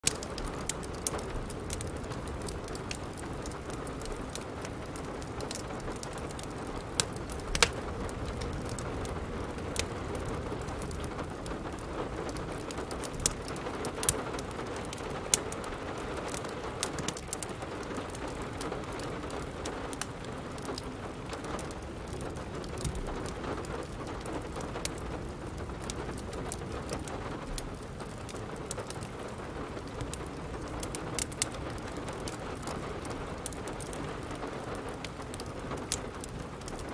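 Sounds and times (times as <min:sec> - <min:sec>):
steady rain: 0:00.0 - 0:36.9
wood fire crackling: 0:00.0 - 0:36.9.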